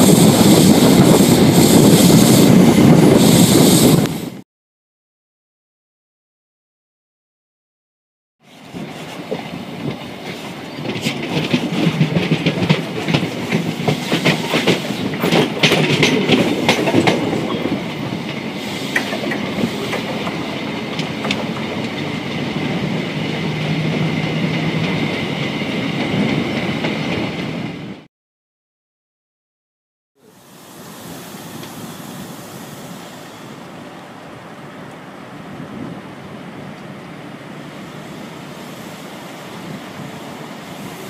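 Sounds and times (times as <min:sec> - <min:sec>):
train rolling rumble: 0:00.0 - 0:04.4, 0:08.4 - 0:28.1, 0:30.2 - 0:41.0.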